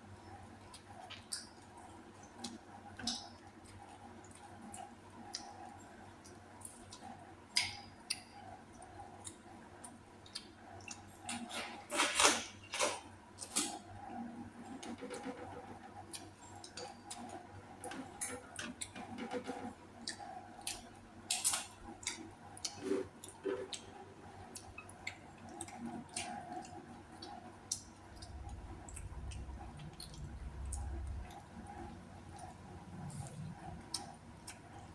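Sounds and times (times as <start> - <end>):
chewing: 0.4 - 12.2, 13.4 - 34.9.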